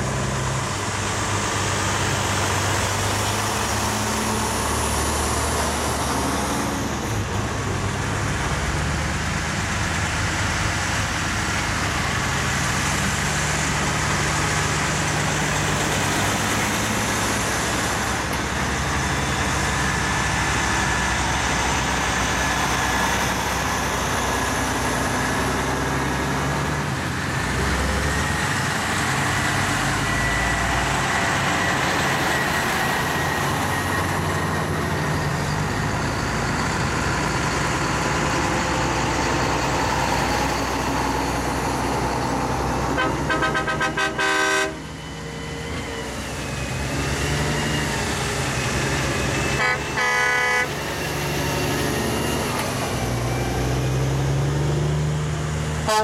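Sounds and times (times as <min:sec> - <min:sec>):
truck engines passing: 0:00.0 - 0:56.0
tyre and road noise: 0:00.0 - 0:56.0.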